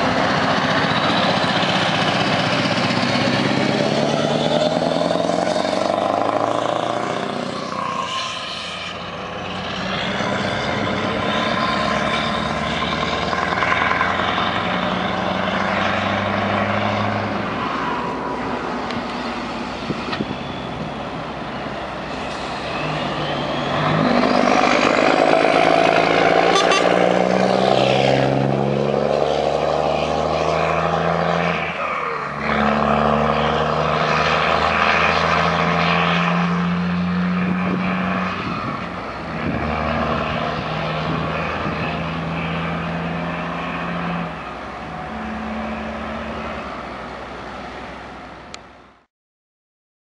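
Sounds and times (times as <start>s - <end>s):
diesel truck engine shifting gears: 0.0s - 48.7s.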